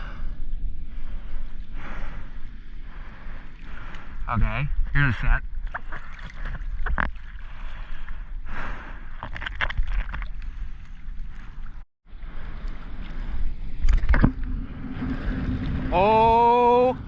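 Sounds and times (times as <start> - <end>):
water sloshing and splashing: 0.9 - 16.3.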